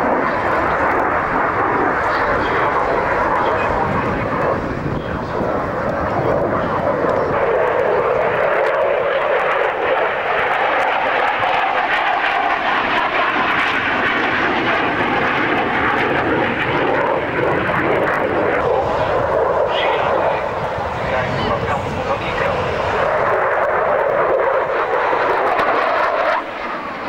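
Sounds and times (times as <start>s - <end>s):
fighter jet engine noise: 0.0s - 27.0s.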